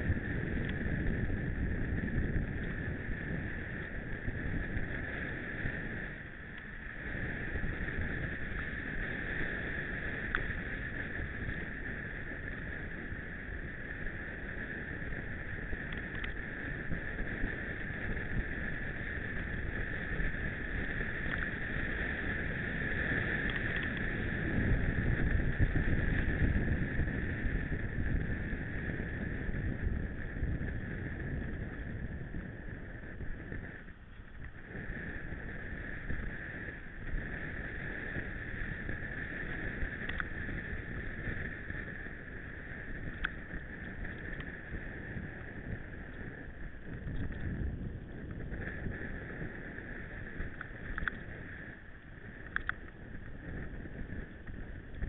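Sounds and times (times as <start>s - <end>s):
bike tyre rumble: 0.0s - 55.0s
wind on microphone: 0.0s - 55.0s.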